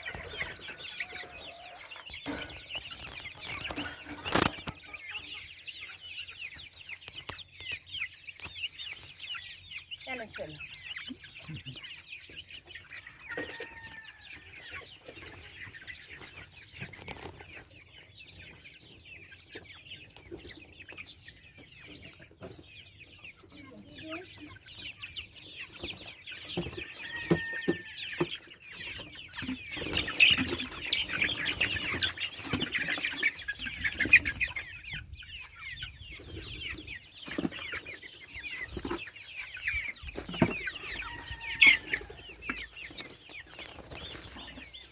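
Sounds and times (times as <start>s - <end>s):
goslings peeping: 0.0s - 44.9s.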